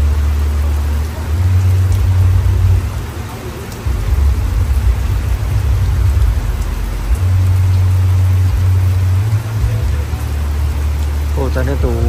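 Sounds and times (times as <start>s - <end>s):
deep sub-bass from sound system: 0.0s - 3.0s, 3.8s - 12.0s.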